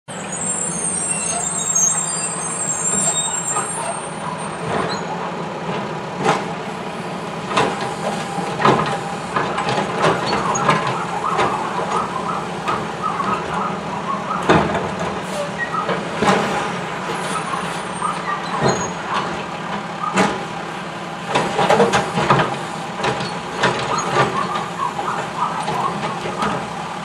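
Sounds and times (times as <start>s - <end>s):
brake squealing: 0.1s - 5.2s, 6.9s - 20.6s, 21.2s - 27.0s
garbage truck diesel engine running: 0.1s - 27.0s.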